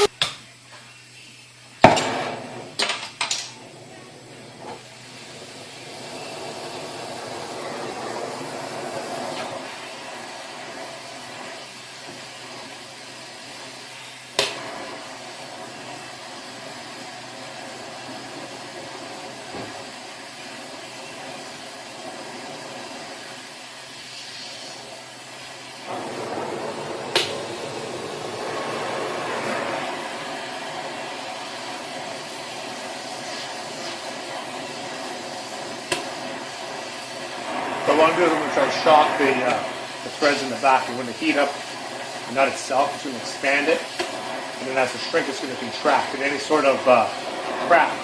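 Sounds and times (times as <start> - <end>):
torch flame hissing: 0.9 - 48.0.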